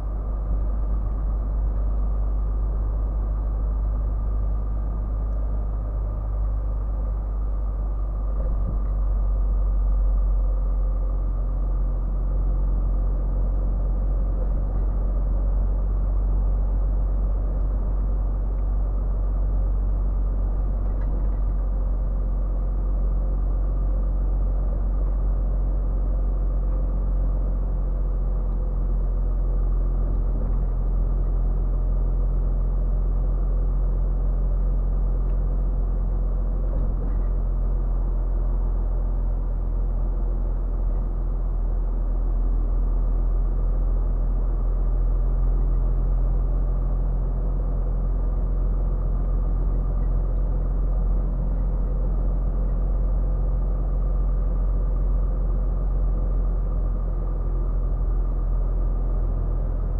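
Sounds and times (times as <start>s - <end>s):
road rumble: 0.0s - 59.9s
truck diesel engine drone: 0.0s - 59.9s.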